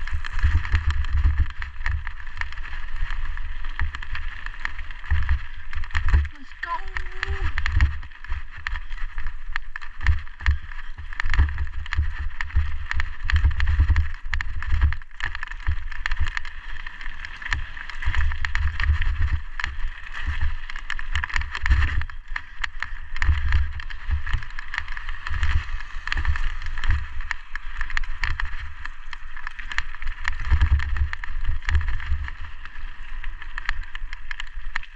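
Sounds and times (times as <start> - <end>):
bike clicks and rattles: 0.0 - 34.9
wind buffeting microphone: 0.0 - 34.9.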